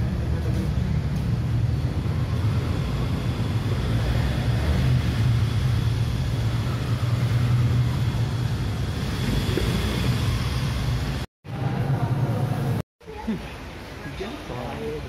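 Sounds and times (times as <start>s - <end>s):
low drone of car park: 0.0s - 15.0s.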